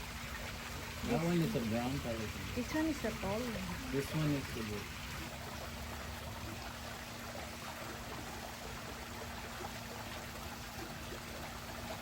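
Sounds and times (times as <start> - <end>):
faint steady hum: 0.0 - 12.0
trickling water: 0.0 - 12.0.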